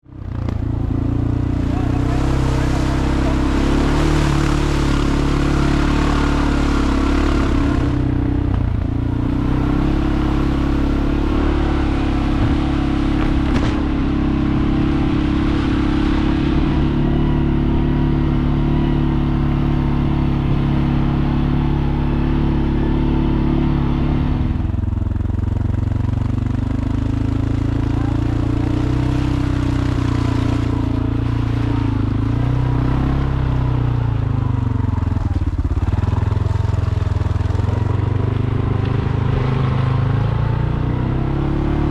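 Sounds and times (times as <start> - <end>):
road and wind noise: 0.0 - 41.9
vehicle engine running: 0.0 - 41.9.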